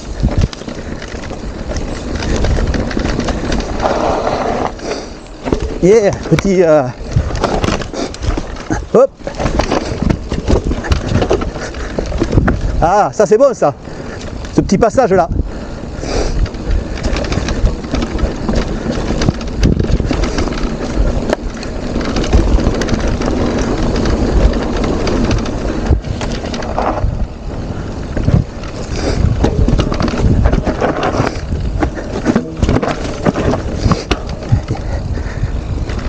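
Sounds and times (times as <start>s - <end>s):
bike tyres crunching over trail: 0.0s - 36.0s
wind noise on microphone: 0.0s - 36.0s.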